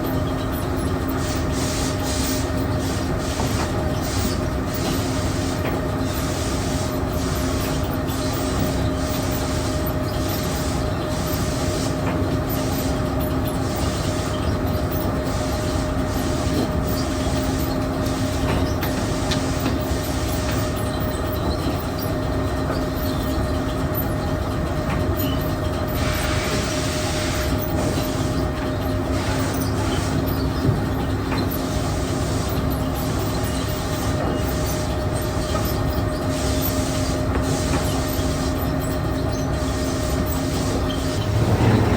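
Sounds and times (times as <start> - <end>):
feed mill machinery hum: 0.0 - 41.9
faint machine squeal: 5.9 - 24.4, 25.0 - 41.9.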